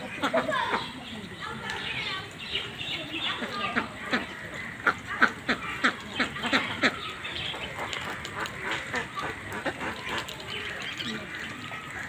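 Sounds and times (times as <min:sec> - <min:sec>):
ducks quacking: 0:00.0 - 0:01.8, 0:02.6 - 0:12.0.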